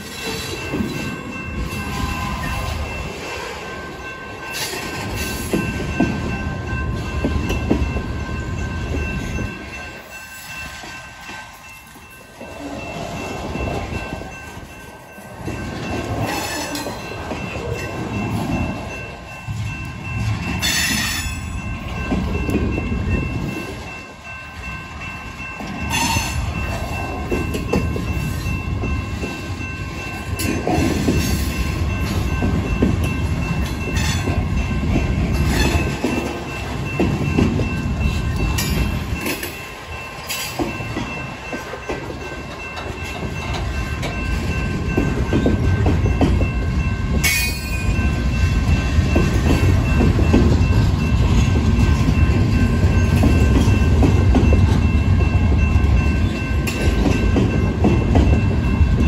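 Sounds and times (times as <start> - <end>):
freight train wheels rumbling: 0.0 - 59.0
wheels clacking on rail: 0.0 - 59.0.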